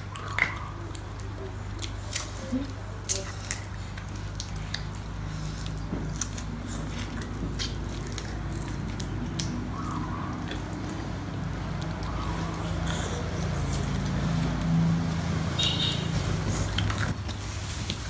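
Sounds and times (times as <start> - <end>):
wet squishes and slurps: 0.0 - 18.0.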